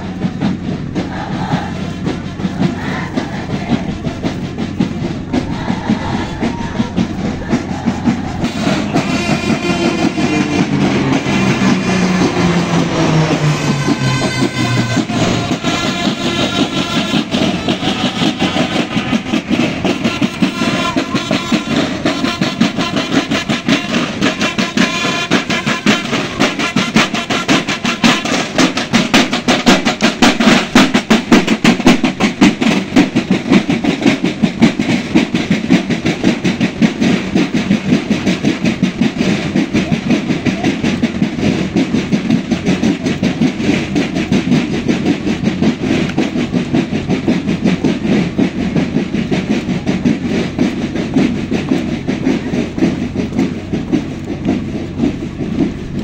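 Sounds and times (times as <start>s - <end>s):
band playing held notes: 0.0s - 56.0s
marching drums: 0.0s - 56.0s.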